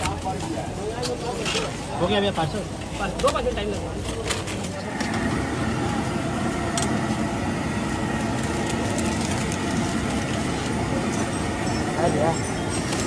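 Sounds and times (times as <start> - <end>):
busy street traffic rumble: 0.0 - 13.0.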